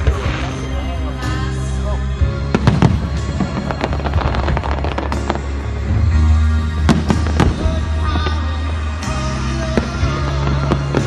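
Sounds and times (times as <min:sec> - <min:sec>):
fireworks bangs: 0:00.0 - 0:01.5, 0:02.4 - 0:11.0
fireworks crackling: 0:00.0 - 0:11.0
music with heavy bass: 0:00.0 - 0:11.0.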